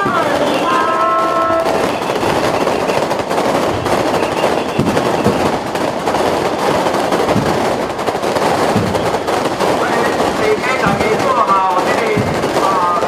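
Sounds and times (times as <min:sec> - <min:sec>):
firecrackers crackling: 0:00.0 - 0:13.0
heavy bangs: 0:00.0 - 0:13.0.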